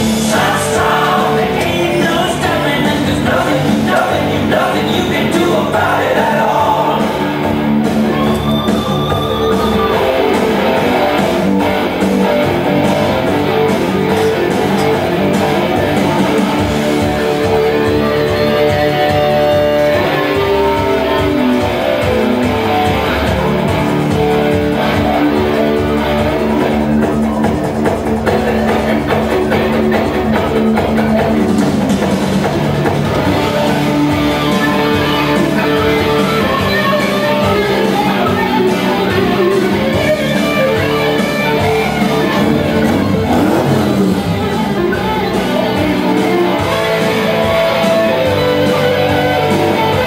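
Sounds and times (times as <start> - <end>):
guitar-led rock music: 0.0 - 50.0.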